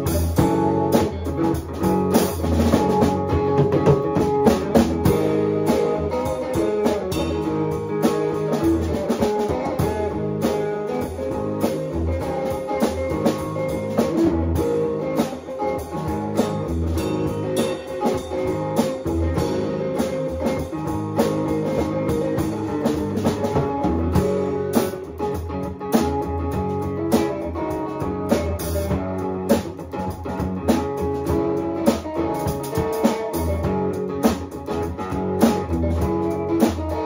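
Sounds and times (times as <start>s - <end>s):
drum kit: 0.0s - 37.0s
guitar playing: 0.0s - 37.0s.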